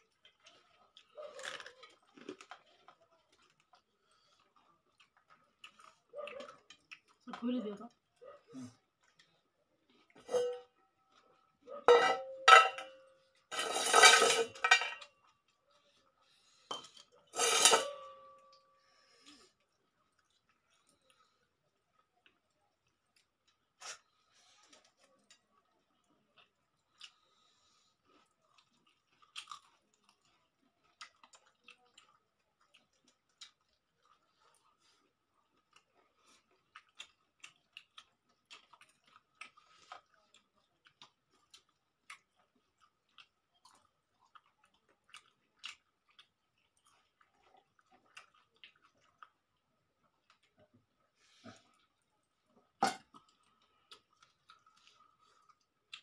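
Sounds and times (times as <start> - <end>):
chewing and lip smacks: 0.0 - 10.2, 19.2 - 56.0.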